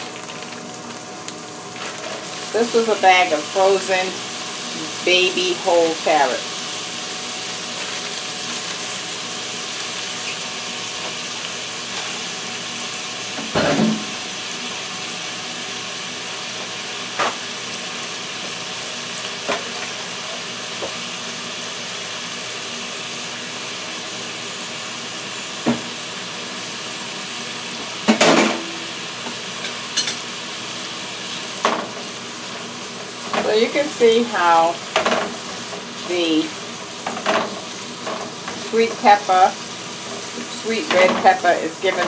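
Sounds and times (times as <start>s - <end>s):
vegetables sizzling in a frying pan: 0.0s - 42.0s.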